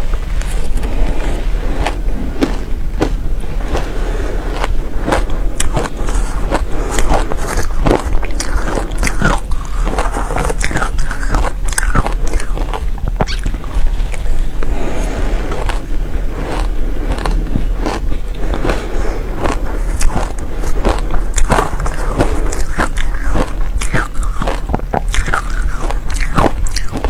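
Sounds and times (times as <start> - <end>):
chewing crunchy ice: 0.4 - 27.0.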